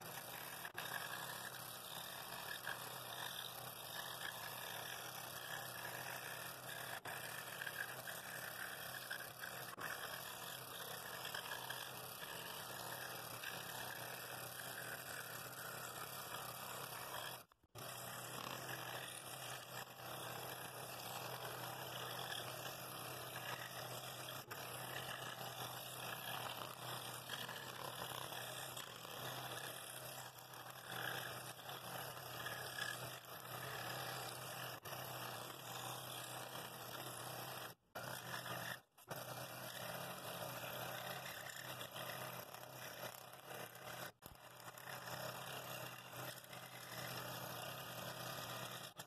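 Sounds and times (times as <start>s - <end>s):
scroll saw cutting wood: 0.0s - 49.0s.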